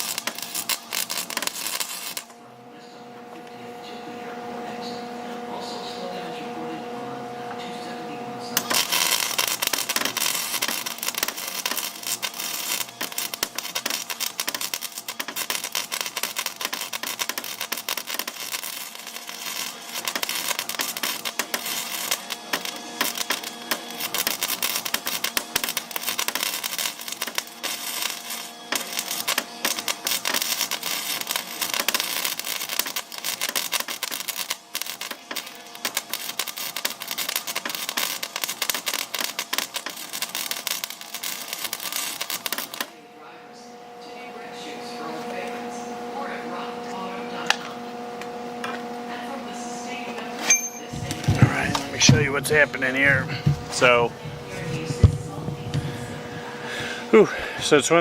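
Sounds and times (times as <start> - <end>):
welder crackling: 0.0 - 2.4, 7.9 - 43.0, 45.0 - 58.0.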